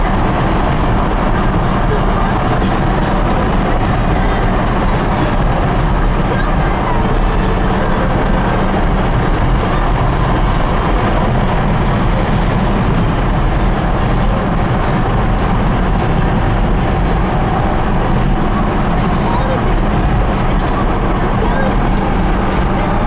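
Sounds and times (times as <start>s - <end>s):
car engine drone: 0.0s - 23.0s.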